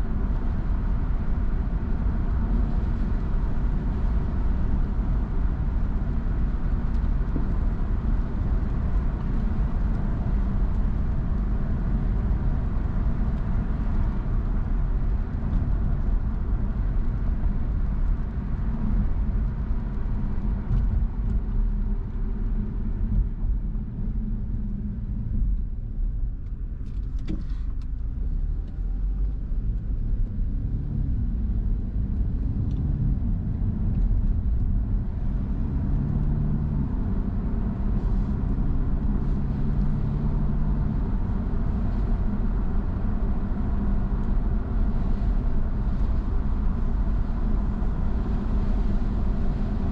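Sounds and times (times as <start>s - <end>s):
car engine rumble: 0.0s - 49.9s.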